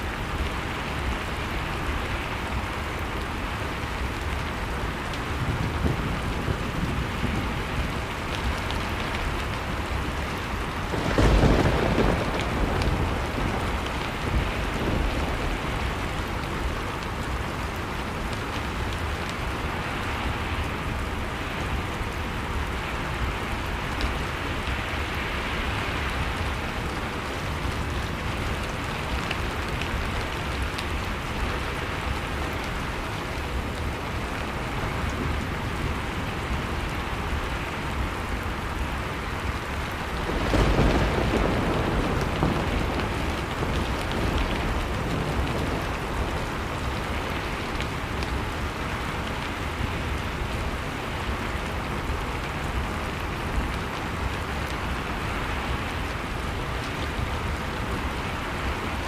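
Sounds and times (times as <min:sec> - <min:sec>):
fireplace fire crackling: 0:00.0 - 0:59.0
howling wind: 0:00.0 - 0:59.0.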